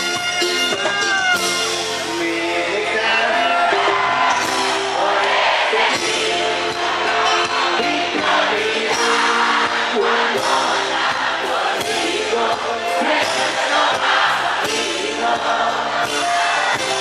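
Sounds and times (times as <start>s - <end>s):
live band playing: 0.0s - 17.0s
crowd shouting: 3.1s - 17.0s.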